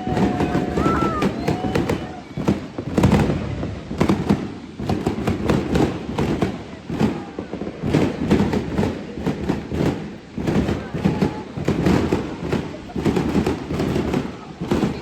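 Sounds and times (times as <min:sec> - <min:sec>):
fireworks popping and banging: 0:00.0 - 0:15.0.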